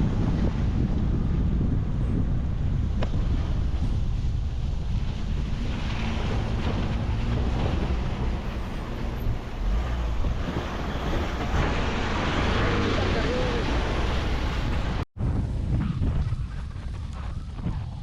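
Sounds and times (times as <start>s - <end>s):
vehicle engine and tyres rumbling: 0.0s - 18.0s
wind buffeting microphone: 0.0s - 18.0s.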